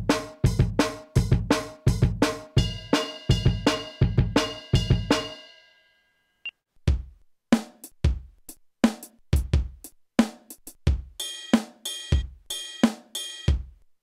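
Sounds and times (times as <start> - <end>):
electronic drum beat: 0.0 - 5.4, 6.9 - 13.8.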